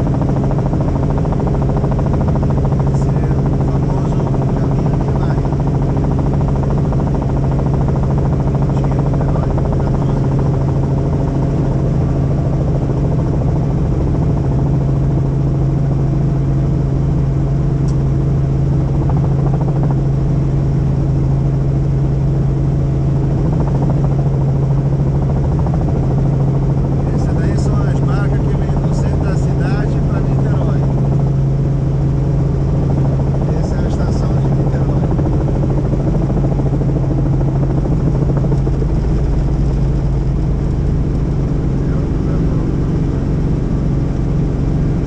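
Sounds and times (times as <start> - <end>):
helicopter engine and rotor drone: 0.0 - 45.0.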